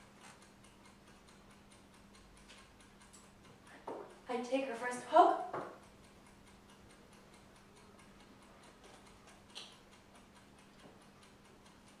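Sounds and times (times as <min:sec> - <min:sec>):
faint clock ticking: 0:00.0 - 0:12.0.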